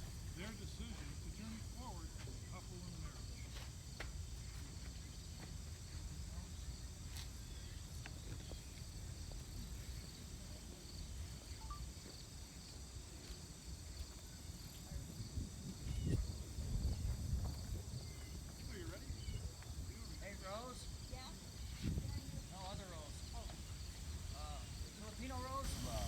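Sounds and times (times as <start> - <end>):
high insect chorus: 0.0 - 26.0.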